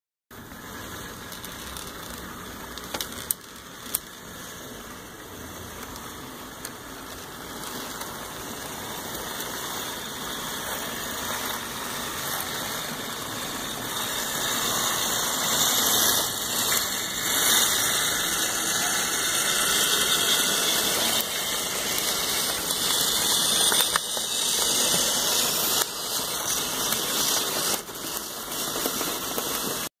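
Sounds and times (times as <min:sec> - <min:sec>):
model locomotive motors whirring: 0:00.4 - 0:29.9.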